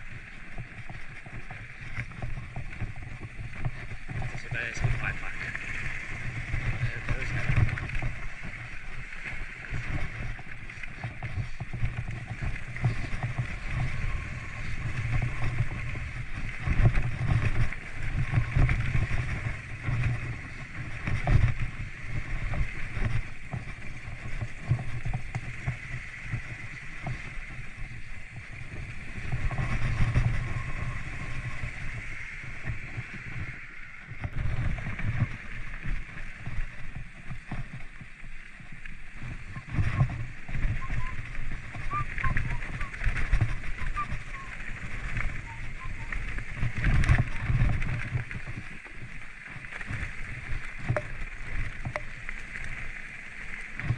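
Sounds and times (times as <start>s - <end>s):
mountain bike rumbling on rough trail: 0.0s - 53.9s.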